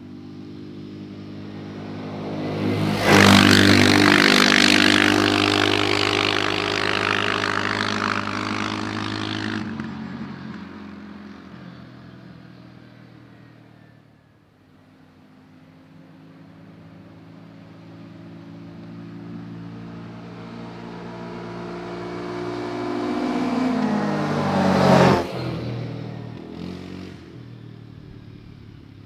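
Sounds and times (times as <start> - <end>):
quad engine running: 0.0 - 29.0.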